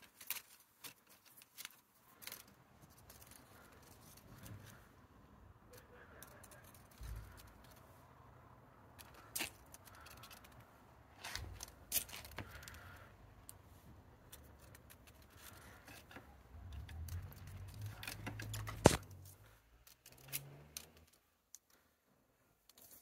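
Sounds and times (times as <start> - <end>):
light clicks and scrapes: 0.0 - 8.1, 8.8 - 21.9, 22.6 - 23.0.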